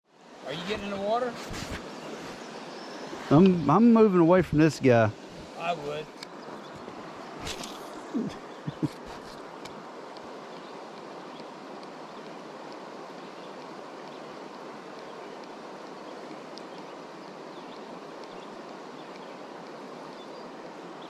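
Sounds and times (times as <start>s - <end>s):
flooded creek water rushing: 0.0s - 21.0s.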